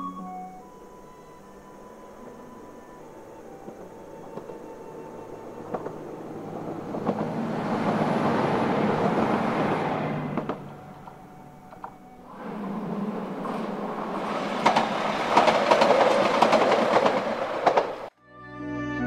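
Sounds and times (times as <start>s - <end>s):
diesel train passing: 0.0s - 18.1s
wheels clicking over rail joints: 0.6s - 18.1s.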